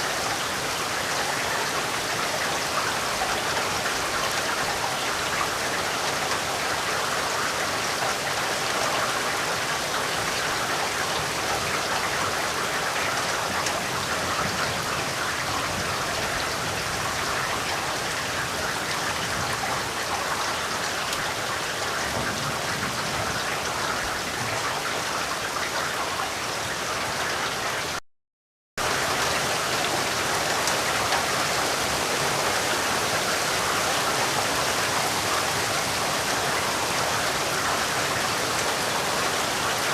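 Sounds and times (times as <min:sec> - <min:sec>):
steady rain falling: 0:00.0 - 0:28.0, 0:28.8 - 0:39.9.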